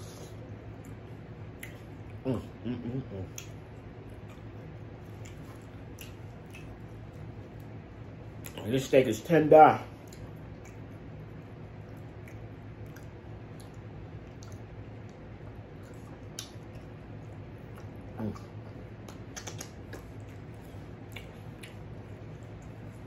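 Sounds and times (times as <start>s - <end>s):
chewing with mouth clicks: 0.0s - 2.2s, 3.1s - 8.7s, 9.9s - 23.0s
steady low hum: 0.0s - 23.0s.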